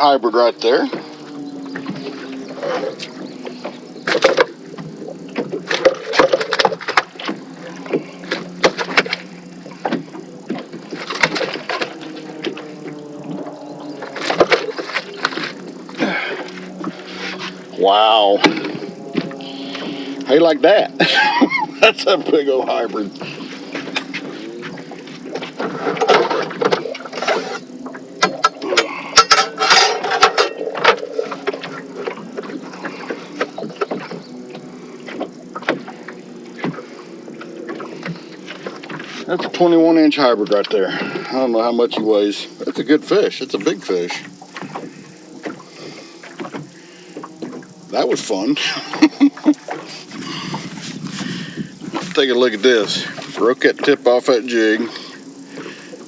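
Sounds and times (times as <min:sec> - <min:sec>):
clicks knocks and rattles in boat: 0:00.0 - 0:56.0
steady low hum: 0:00.0 - 0:56.0
fish splashing: 0:00.9 - 0:41.4, 0:42.0 - 0:56.0.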